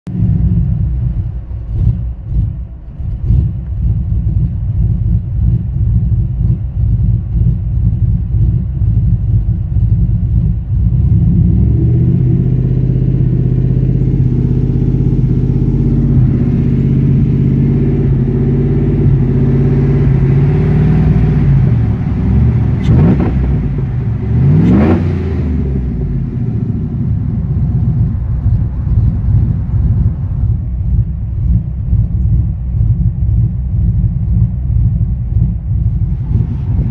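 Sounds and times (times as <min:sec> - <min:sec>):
engine revving: 0:00.1 - 0:32.5, 0:35.8 - 0:36.9
engine idling roughly: 0:00.1 - 0:36.9.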